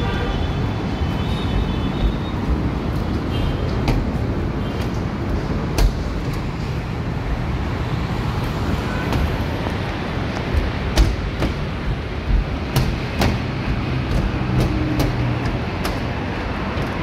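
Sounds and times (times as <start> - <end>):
road traffic noise: 0.0 - 17.0
footsteps on metal walkway: 0.3 - 17.0.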